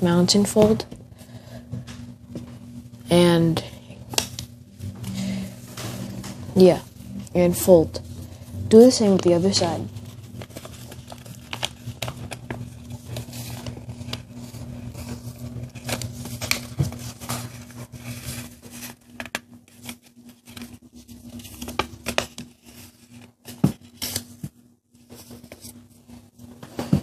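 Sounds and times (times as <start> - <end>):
paper being folded: 3.2 - 27.0.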